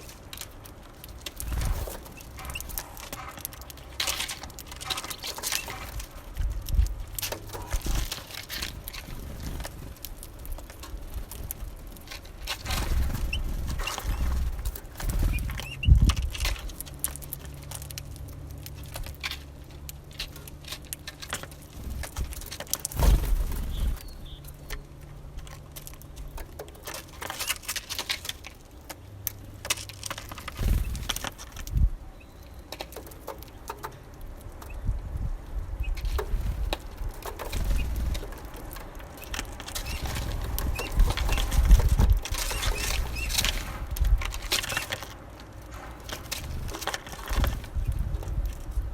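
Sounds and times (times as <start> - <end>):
birds pecking and scrabbling: 0.0 - 48.9.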